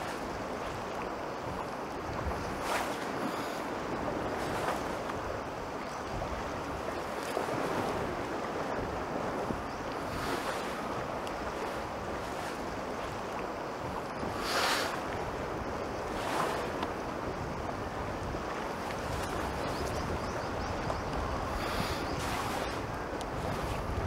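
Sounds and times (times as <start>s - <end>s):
sea surf washing: 0.0s - 24.0s
wind noise on microphone: 0.0s - 24.0s.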